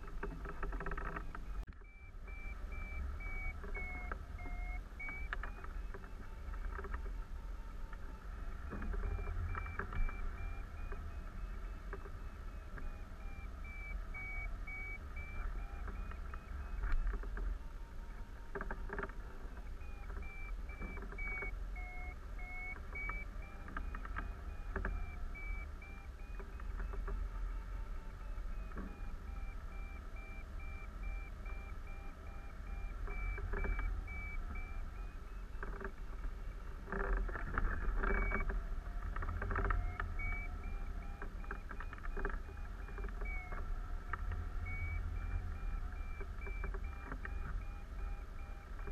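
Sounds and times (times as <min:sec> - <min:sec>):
variometer beeping rapidly: 0:00.0 - 0:18.0, 0:18.6 - 0:37.3, 0:38.0 - 0:38.5, 0:39.3 - 0:48.9
scattered clicks: 0:00.0 - 0:48.9.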